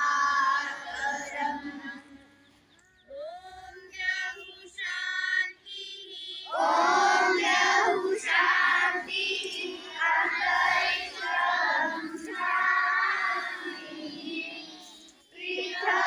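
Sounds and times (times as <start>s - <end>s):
voices singing slow melody: 0.0s - 16.0s.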